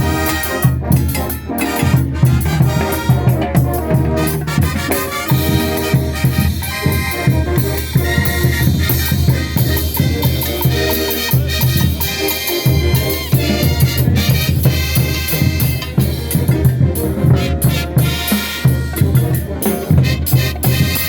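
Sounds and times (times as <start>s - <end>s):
brass band music: 0.0s - 21.0s
drums playing steady beat: 0.0s - 21.0s.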